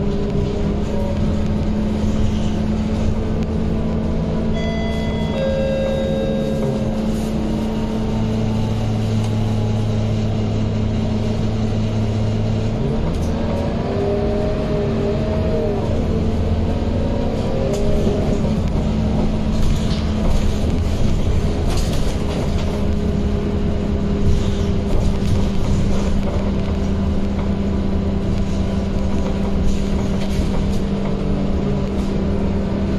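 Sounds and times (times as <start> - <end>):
bus engine drone: 0.0 - 32.9.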